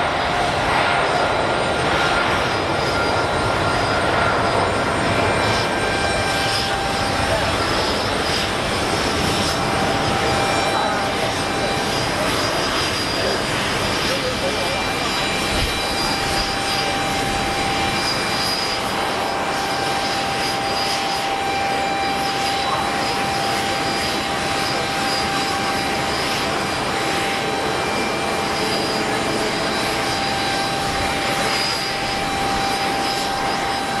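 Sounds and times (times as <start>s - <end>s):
jet engine roar with whine: 0.0s - 34.0s.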